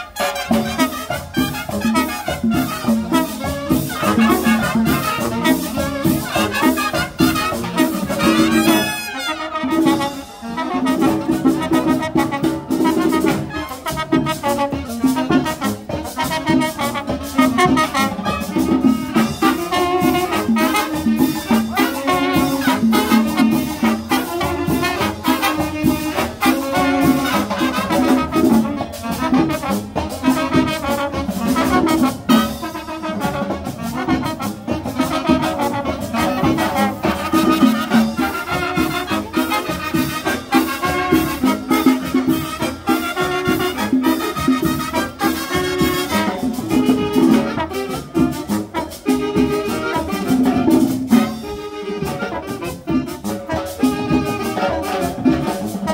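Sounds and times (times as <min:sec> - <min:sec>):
brass band playing salsa tune: 0:00.0 - 0:55.9.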